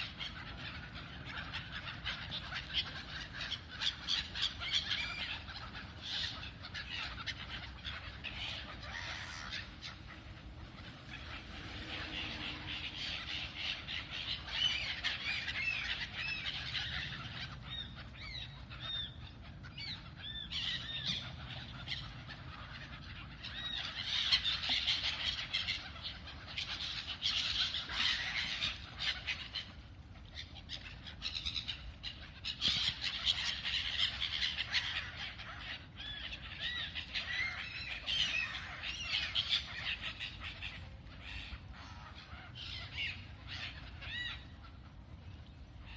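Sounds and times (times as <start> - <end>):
flock of birds squawking: 0.0 - 45.9.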